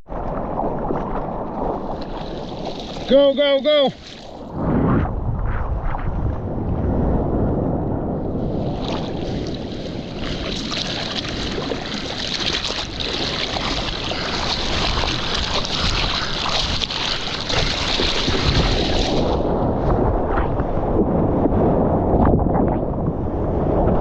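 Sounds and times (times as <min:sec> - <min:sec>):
water rushing past surfboard: 0:00.0 - 0:06.3, 0:08.4 - 0:24.0
wind rumble on microphone: 0:00.0 - 0:24.0.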